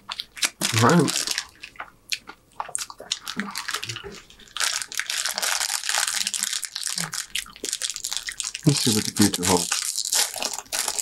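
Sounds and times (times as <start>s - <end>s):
plastic wrapper crinkling: 0.1s - 1.9s, 2.6s - 11.0s.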